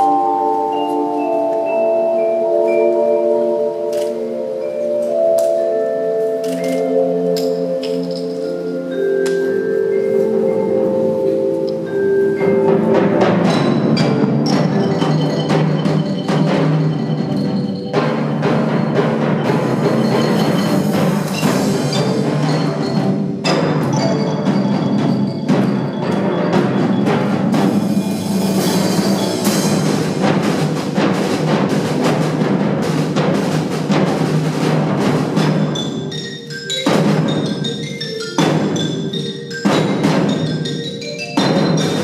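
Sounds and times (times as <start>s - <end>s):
percussion ensemble playing: 0.0s - 42.0s.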